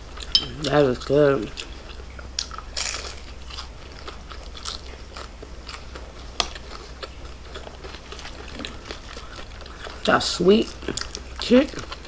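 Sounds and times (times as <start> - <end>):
crunching and chewing: 0.0 - 12.0.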